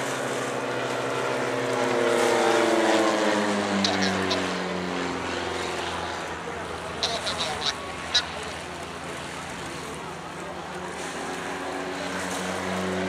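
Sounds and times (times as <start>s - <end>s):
propeller plane engine: 0.0s - 13.0s.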